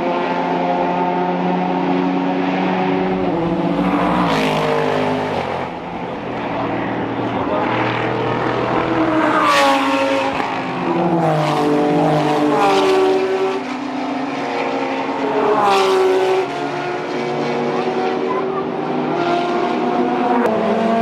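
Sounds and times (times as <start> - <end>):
race cars passing: 0.0 - 21.0.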